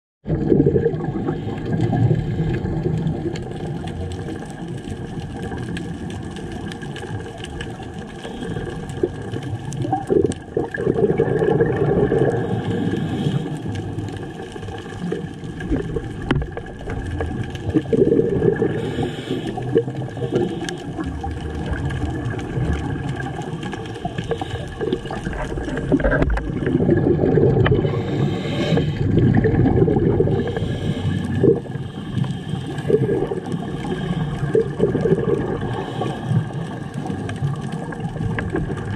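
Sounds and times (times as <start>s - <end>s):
gurgle of exhaled bubbles: 0.2s - 38.9s
muffled underwater noise: 0.3s - 38.9s.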